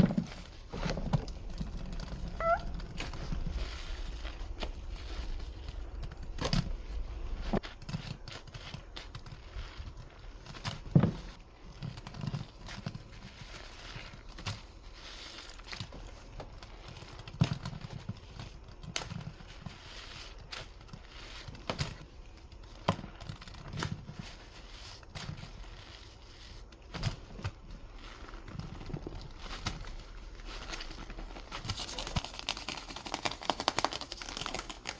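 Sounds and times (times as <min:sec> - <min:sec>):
sponge squelching with soap suds: 0:00.0 - 0:34.9.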